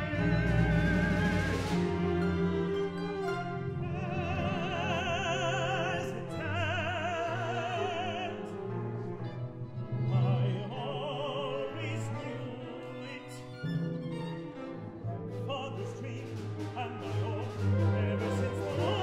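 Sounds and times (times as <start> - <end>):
male opera singer: 0.0 - 9.2, 9.9 - 13.7, 15.3 - 19.0
chamber orchestra: 0.0 - 19.0.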